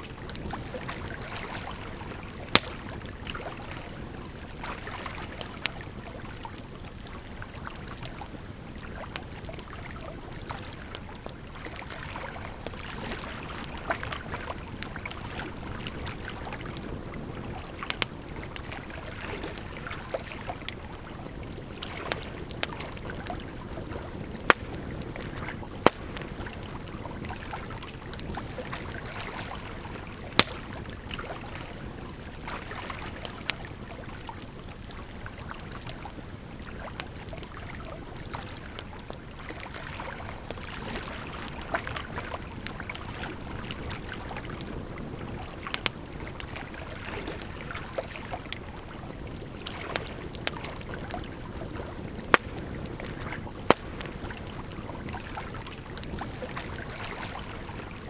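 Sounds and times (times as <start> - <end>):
firewood crackling and popping: 0.1 - 57.8.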